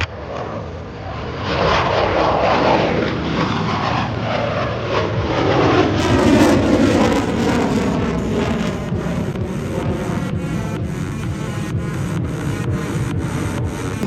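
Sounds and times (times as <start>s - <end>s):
fighter jets flying past: 0.0s - 14.0s.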